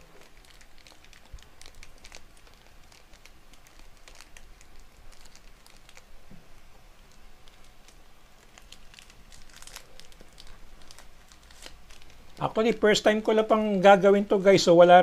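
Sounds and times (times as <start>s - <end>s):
plastic wrapping crinkling: 0.0s - 14.8s.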